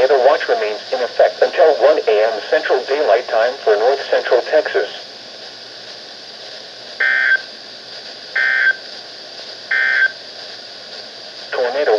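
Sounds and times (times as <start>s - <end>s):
radio hiss: 0.0s - 11.9s.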